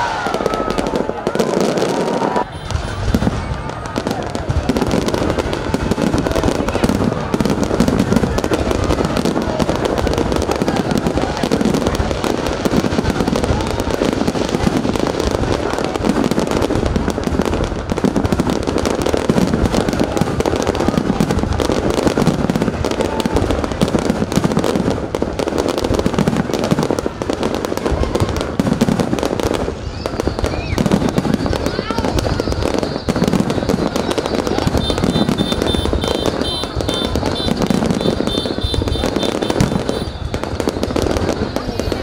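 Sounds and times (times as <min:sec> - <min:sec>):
fireworks popping and crackling: 0:00.0 - 0:42.0.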